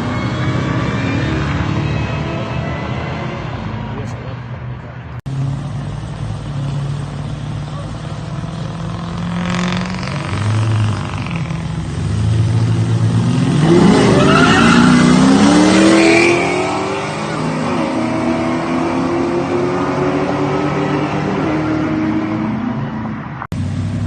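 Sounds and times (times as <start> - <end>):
drag race engines accelerating: 0.0 - 24.0.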